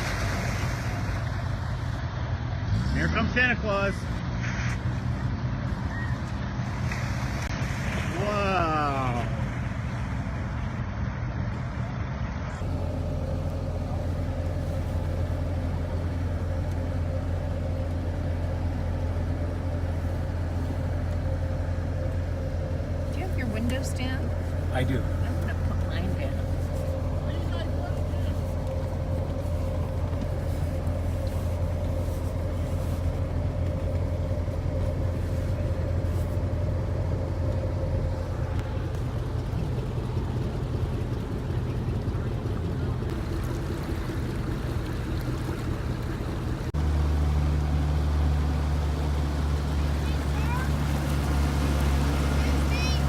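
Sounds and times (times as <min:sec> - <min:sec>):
car engine droning: 0:00.0 - 0:53.0.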